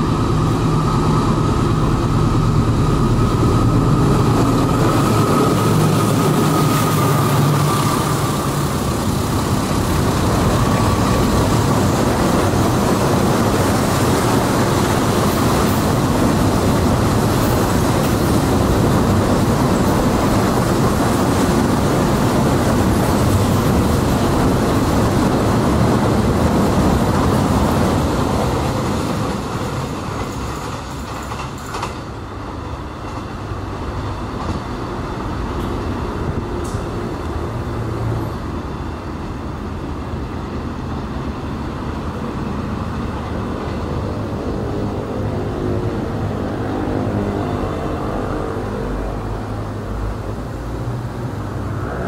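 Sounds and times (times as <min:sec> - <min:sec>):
freight train wheels rumbling and clacking: 0:00.0 - 0:52.0.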